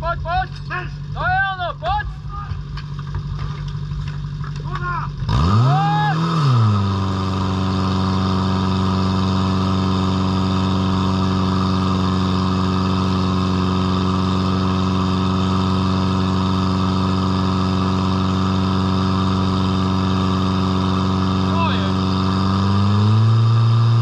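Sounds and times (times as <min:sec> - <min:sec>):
pump engine running: 0:02.2 - 0:24.0.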